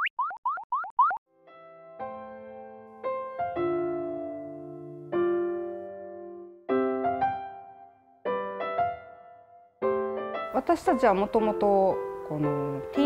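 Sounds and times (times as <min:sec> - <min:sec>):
gentle piano chords: 0:01.3 - 0:13.0.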